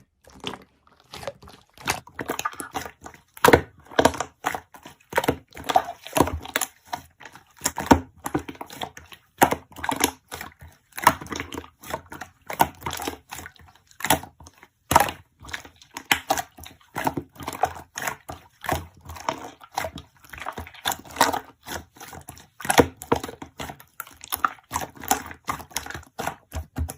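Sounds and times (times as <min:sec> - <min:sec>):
slime squished by hand: 0:00.0 - 0:26.9.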